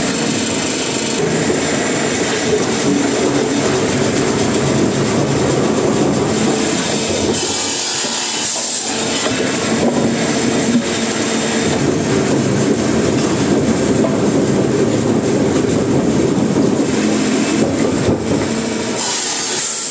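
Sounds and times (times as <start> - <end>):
wood-processing machinery running: 0.0 - 19.9.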